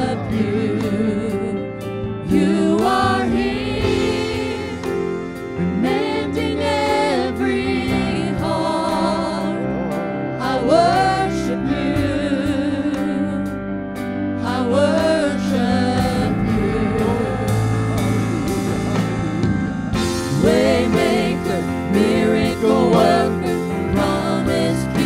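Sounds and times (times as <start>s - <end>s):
voices singing gospel melody: 0.0s - 13.6s, 14.4s - 25.0s
instrumental accompaniment: 0.0s - 25.0s.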